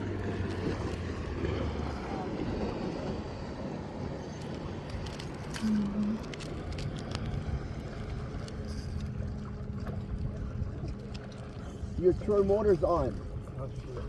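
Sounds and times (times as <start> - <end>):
boat motor running: 0.0 - 14.0
water noise: 0.0 - 14.0
wind: 0.0 - 14.0.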